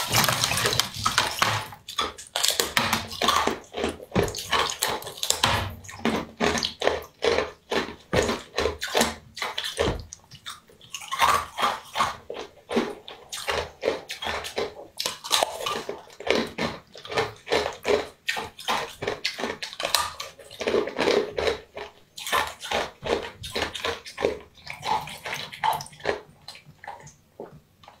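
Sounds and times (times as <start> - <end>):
wet crunchy bites and chews: 0.0 - 28.0.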